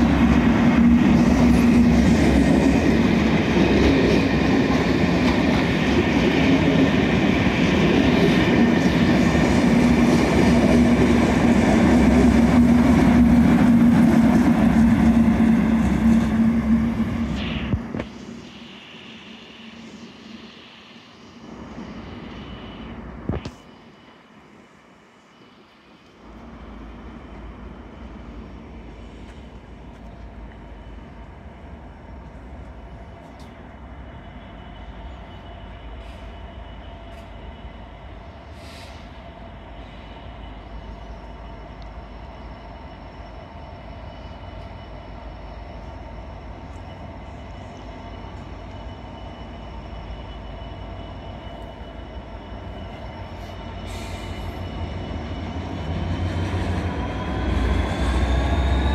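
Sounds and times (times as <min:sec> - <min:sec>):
diesel locomotive engine rumbling: 0:00.0 - 0:58.9.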